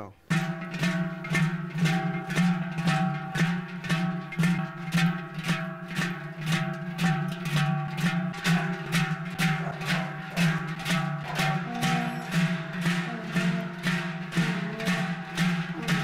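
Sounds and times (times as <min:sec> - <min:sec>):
large cowbells clanging: 0:00.0 - 0:16.0.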